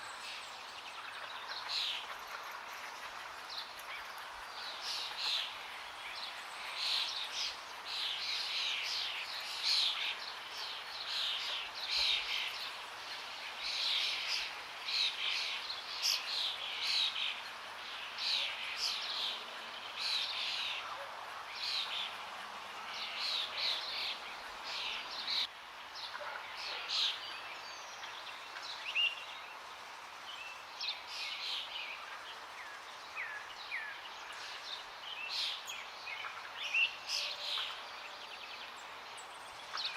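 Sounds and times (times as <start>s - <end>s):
forest birds chirping and singing: 0.0s - 39.9s.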